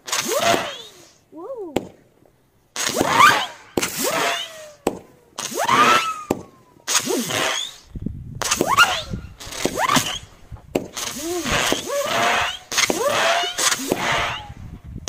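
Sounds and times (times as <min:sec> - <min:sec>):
whistling fireworks: 0:00.0 - 0:01.2, 0:02.8 - 0:14.8.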